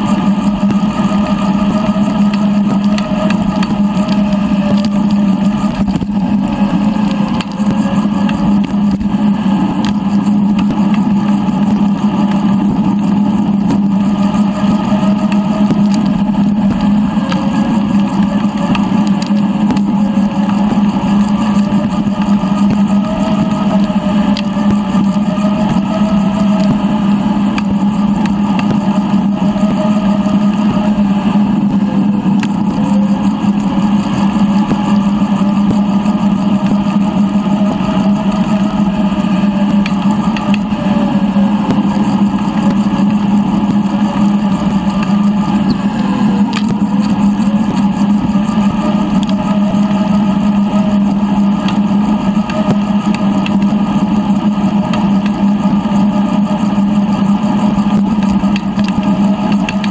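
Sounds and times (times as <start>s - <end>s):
motor-like drone: 0.0s - 59.9s.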